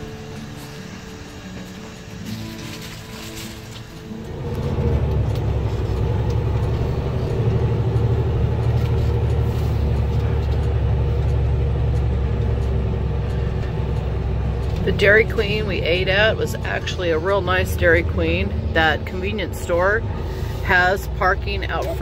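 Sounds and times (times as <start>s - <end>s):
diesel truck engine rumble: 0.0s - 22.0s.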